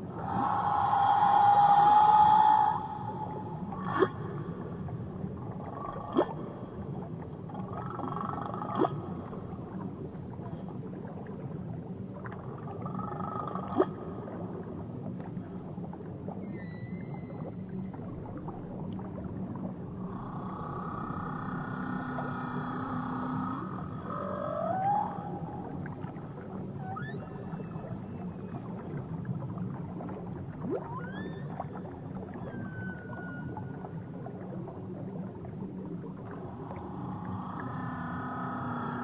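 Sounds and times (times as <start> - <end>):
whale song underwater: 0.0 - 39.0.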